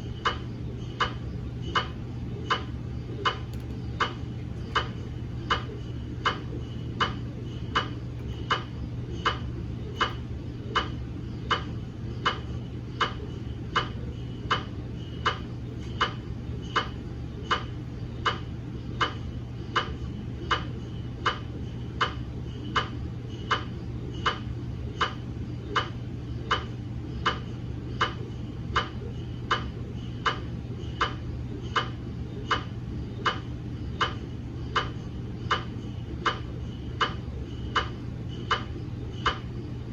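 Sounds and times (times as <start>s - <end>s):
mri scanner knocking: 0.0s - 39.7s
constant low hum: 0.0s - 39.9s.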